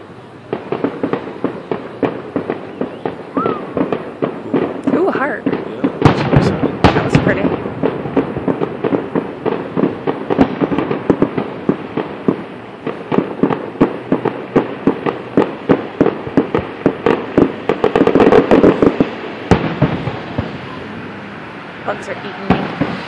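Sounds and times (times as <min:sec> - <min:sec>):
fireworks bangs and crackles: 0:00.0 - 0:23.0
sharp firework bang: 0:00.0 - 0:23.0.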